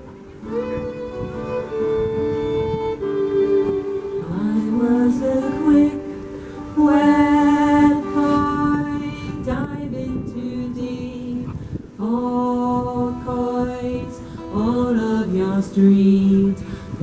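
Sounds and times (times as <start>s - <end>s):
person singing slow melody: 0.0s - 17.0s.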